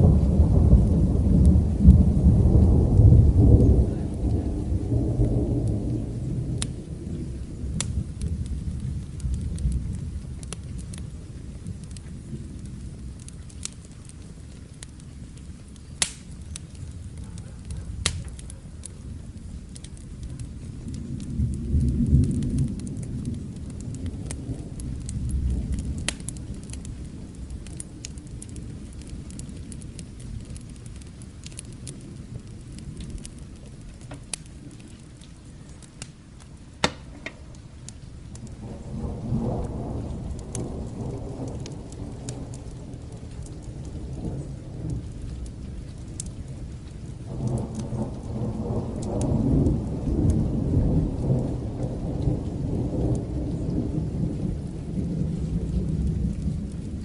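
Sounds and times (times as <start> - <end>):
distant thunder rolling: 0.0 - 14.2, 19.4 - 57.0
steady rain: 0.0 - 57.0
wood fire crackling and popping: 0.0 - 57.0.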